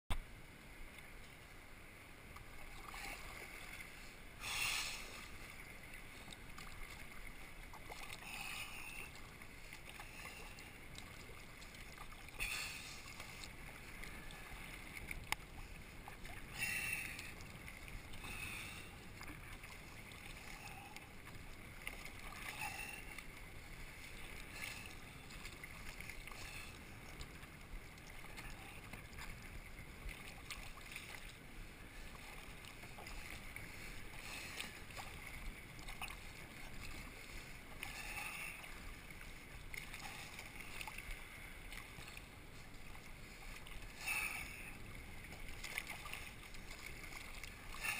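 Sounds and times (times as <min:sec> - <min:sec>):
paddle splashing: 0:00.1 - 0:47.9
water rushing past hull: 0:00.2 - 0:47.9.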